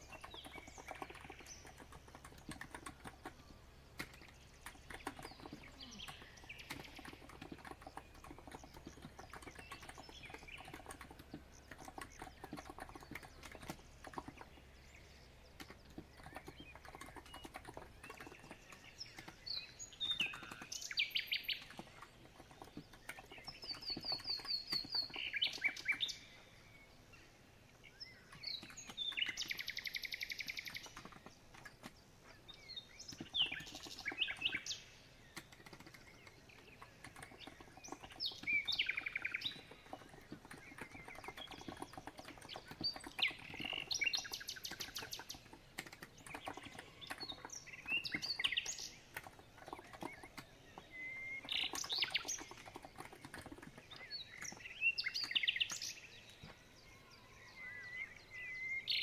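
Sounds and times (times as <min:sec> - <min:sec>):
soft keyboard keystrokes: 0:00.0 - 0:20.8, 0:21.4 - 0:26.1, 0:28.3 - 0:29.7, 0:30.4 - 0:32.0, 0:32.9 - 0:56.8
songbird chirping: 0:00.0 - 0:59.0.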